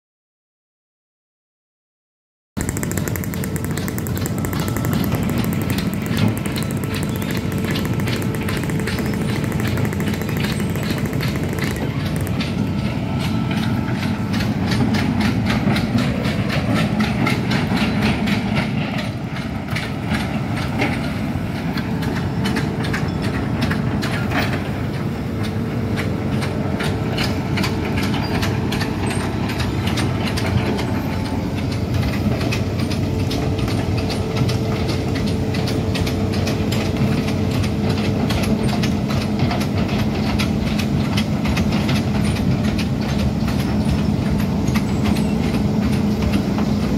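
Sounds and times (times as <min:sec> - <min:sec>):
diesel engine running: 0:02.6 - 0:46.9
track chains clattering: 0:02.6 - 0:46.9.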